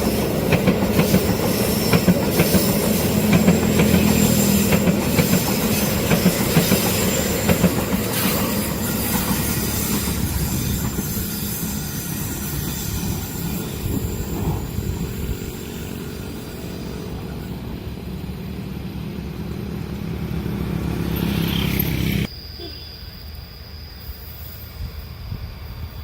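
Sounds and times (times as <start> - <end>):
train wheels rumbling on rails: 0.0 - 22.3.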